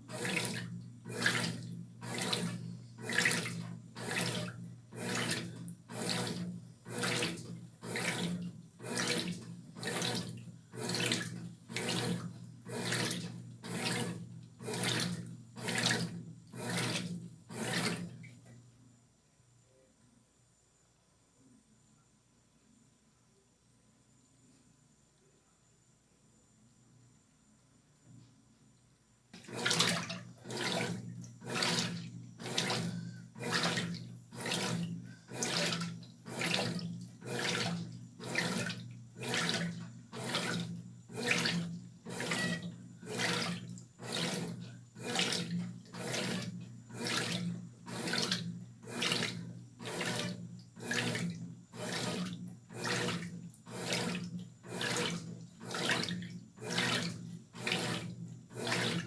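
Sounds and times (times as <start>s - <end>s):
water sloshing in washing machine: 0.0s - 18.6s, 29.4s - 59.0s.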